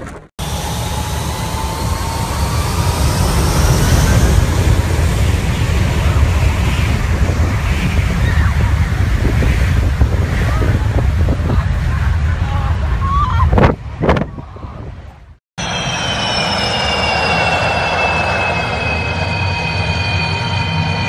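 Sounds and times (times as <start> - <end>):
jet engine whine: 0.4 - 12.5, 15.6 - 21.0
jet blast rumble: 0.4 - 21.0.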